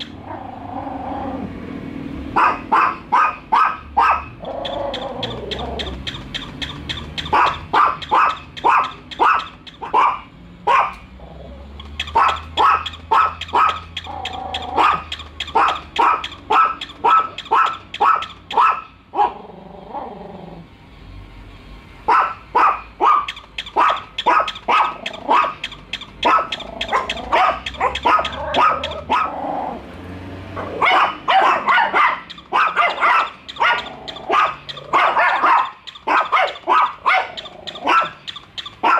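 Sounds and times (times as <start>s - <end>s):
small dogs barking: 2.3s - 20.1s, 22.0s - 29.8s, 30.5s - 38.9s.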